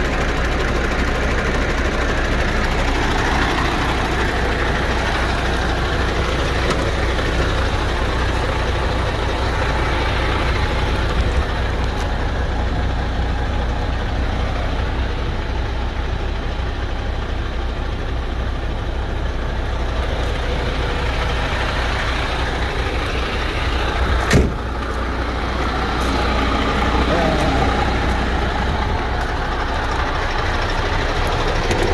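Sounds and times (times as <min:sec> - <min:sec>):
diesel engine idling: 0:00.0 - 0:31.9.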